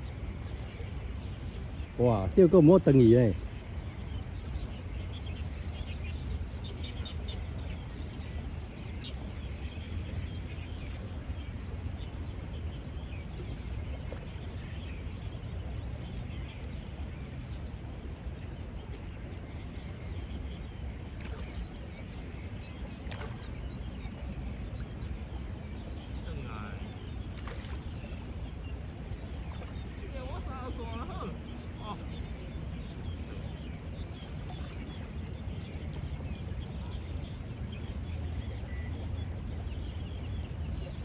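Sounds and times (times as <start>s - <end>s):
wind rumble on microphone: 0.0s - 41.0s.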